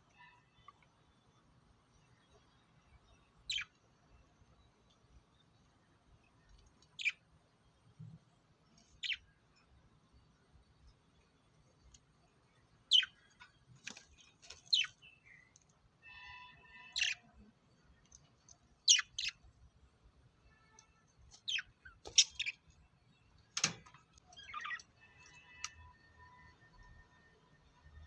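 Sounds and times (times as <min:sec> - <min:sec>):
lovebirds chirping: 0:00.0 - 0:07.8, 0:08.6 - 0:19.6, 0:20.4 - 0:23.5, 0:24.2 - 0:27.8.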